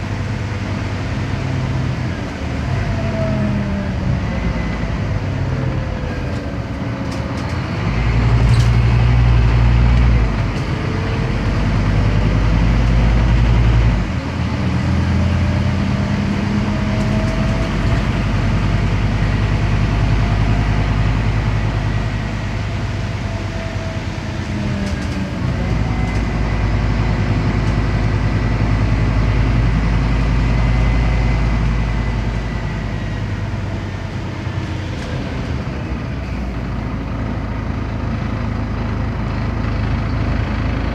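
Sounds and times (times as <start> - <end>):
diesel bus engine pulling away: 0.0 - 40.9
faint drivetrain whine: 0.0 - 40.9.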